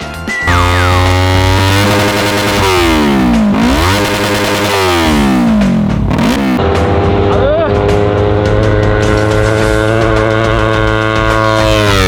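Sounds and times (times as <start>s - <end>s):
motorcycle engine revving: 0.5s - 12.0s.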